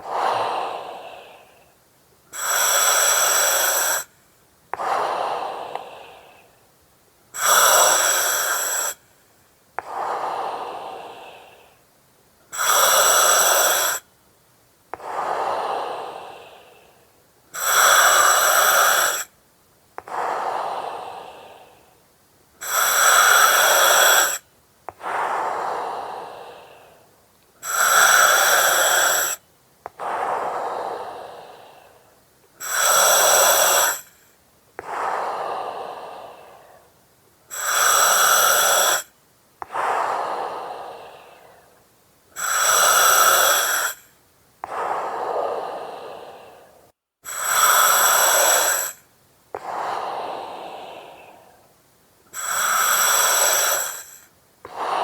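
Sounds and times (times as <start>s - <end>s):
breathing through oxygen mask: 0.0s - 4.1s, 4.7s - 6.6s, 7.4s - 9.0s, 12.5s - 14.0s, 15.0s - 19.3s, 20.0s - 21.9s, 22.6s - 41.8s, 42.4s - 51.7s, 52.3s - 55.0s.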